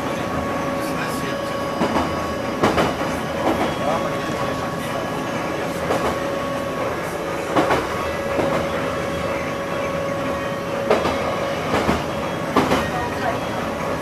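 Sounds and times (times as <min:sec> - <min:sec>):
electric train running with whine: 0:00.0 - 0:14.0.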